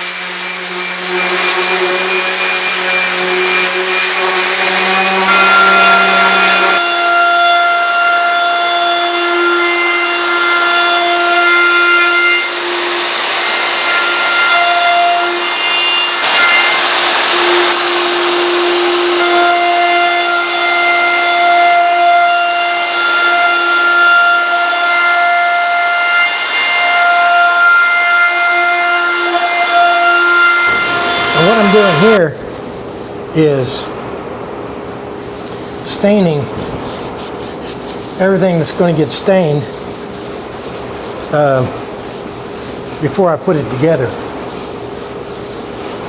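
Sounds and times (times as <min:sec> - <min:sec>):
electric sander on wood: 0:00.0 - 0:32.2, 0:35.8 - 0:46.0.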